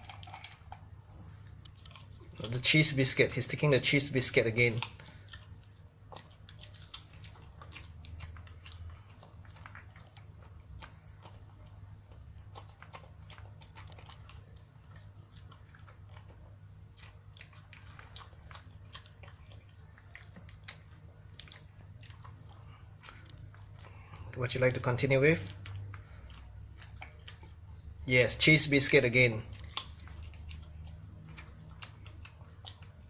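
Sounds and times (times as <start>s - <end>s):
dog crunching a hard biscuit: 0.0s - 27.6s, 28.7s - 33.0s.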